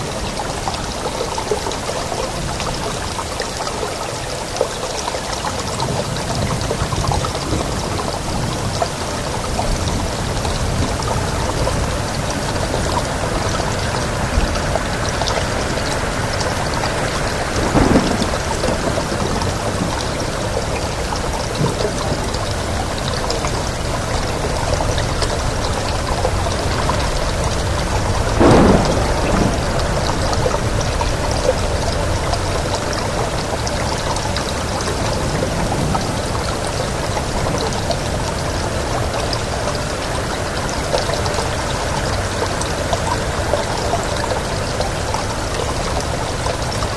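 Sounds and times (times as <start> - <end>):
rain with wind: 0.0 - 46.9.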